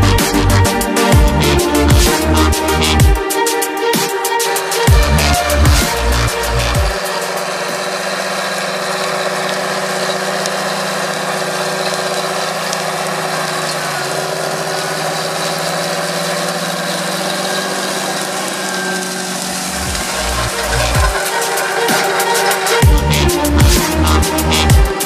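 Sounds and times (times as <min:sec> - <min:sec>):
discs rushing through soil: 0:00.0 - 0:25.0
tractor diesel engine under load: 0:00.0 - 0:25.0.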